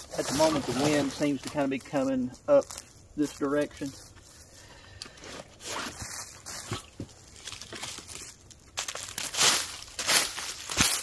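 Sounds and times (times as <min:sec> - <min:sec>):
camping gear rustling: 0:00.0 - 0:11.0
dry leaves crunching underfoot: 0:00.0 - 0:11.0.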